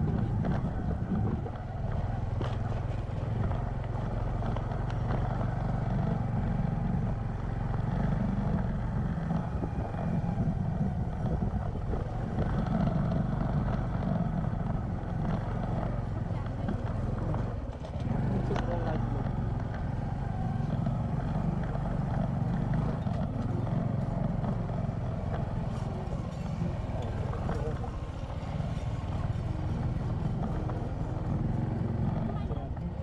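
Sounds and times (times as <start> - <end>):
motorcycle engine cruising: 0.0 - 33.0
road and wind noise: 0.0 - 33.0.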